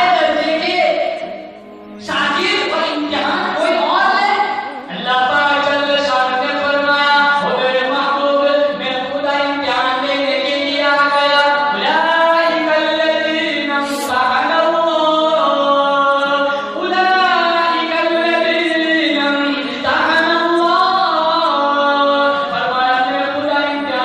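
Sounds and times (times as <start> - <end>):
lead voice singing: 0.0 - 24.0.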